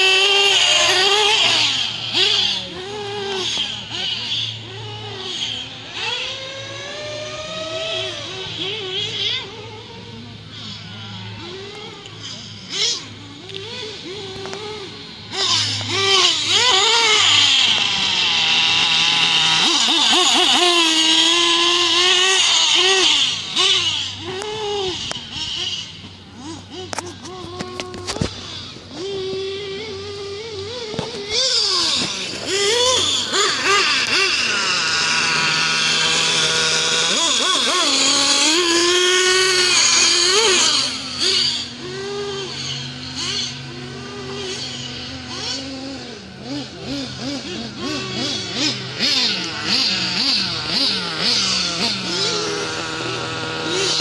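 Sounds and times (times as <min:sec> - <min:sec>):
rc truck engine revving: 0:00.0 - 0:54.0.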